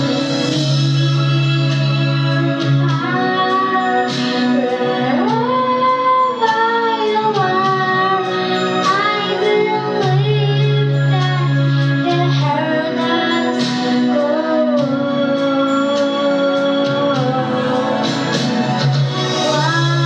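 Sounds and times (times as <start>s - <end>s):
girl singing: 0.0s - 18.1s, 19.3s - 20.0s
instrumental accompaniment: 0.0s - 20.0s.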